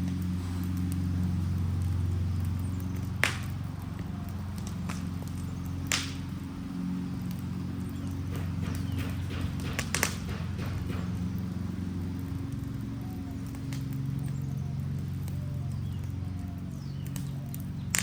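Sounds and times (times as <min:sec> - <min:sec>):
fire crackling and popping: 0:00.0 - 0:18.0
low rumble of fire: 0:00.0 - 0:18.0.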